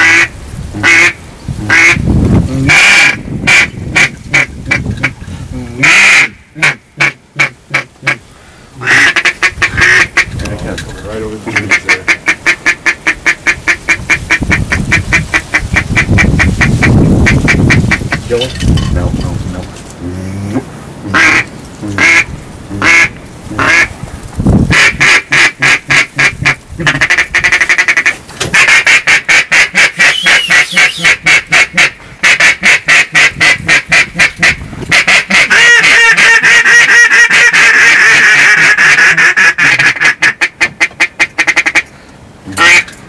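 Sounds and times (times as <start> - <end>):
duck call quacks: 0.0 - 2.0, 2.7 - 5.2, 5.8 - 8.2, 8.8 - 10.4, 11.5 - 18.3, 21.1 - 23.9, 24.7 - 41.9, 42.5 - 42.9.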